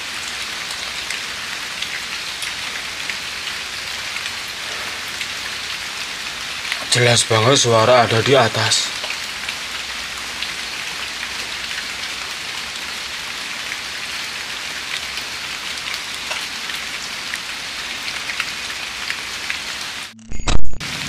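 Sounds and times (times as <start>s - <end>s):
light drizzle pattering: 0.2s - 20.0s.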